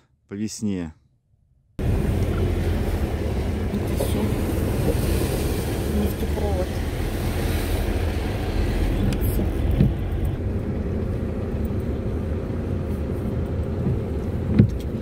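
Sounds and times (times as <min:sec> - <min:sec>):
car driving low rumble: 0:01.8 - 0:15.0.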